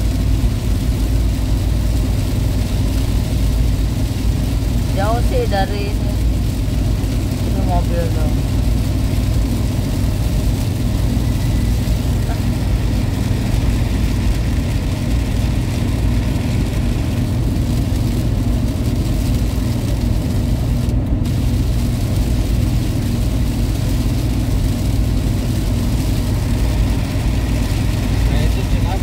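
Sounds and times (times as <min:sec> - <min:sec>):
engine and road drone: 0:00.0 - 0:29.0
rain hissing on car body: 0:00.0 - 0:29.0.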